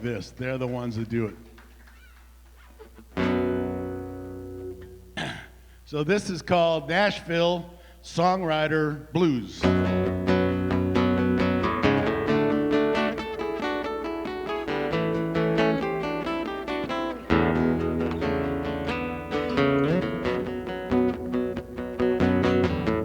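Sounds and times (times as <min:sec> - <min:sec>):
blues guitar: 0:00.0 - 0:07.2, 0:08.5 - 0:23.0.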